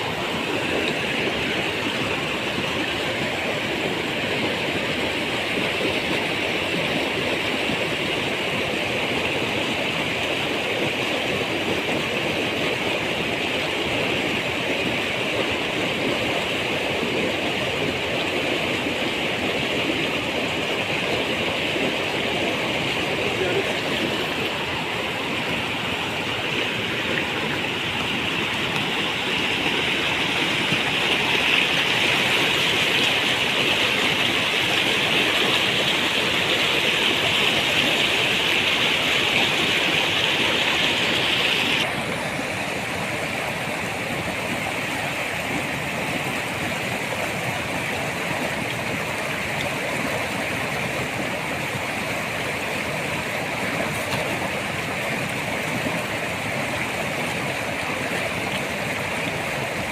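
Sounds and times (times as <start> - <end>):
rushing stream water: 0.0 - 59.9.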